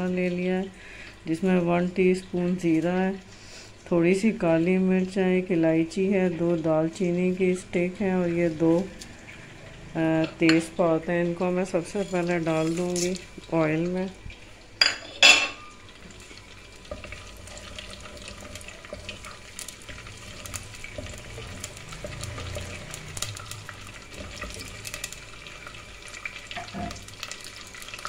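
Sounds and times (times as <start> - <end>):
spices sizzling and popping in oil: 0.0 - 28.0.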